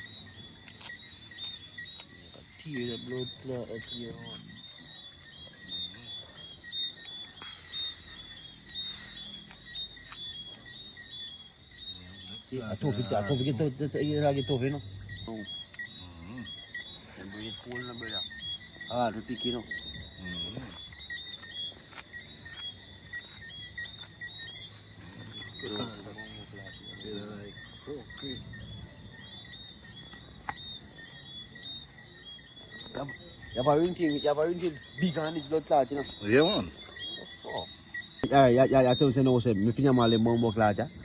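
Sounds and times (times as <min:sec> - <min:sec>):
cricket chirps: 0:00.0 - 0:41.0
insects droning: 0:00.0 - 0:41.0.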